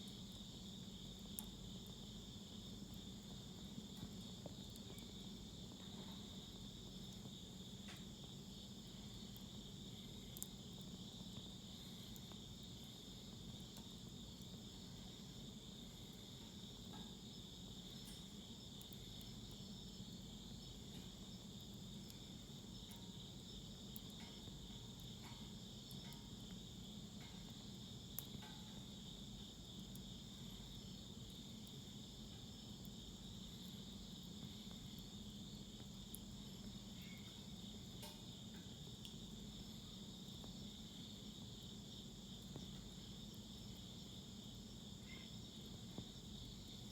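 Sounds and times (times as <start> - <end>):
crickets chirping: 0.0 - 46.9
burning wood crackling: 0.1 - 46.9.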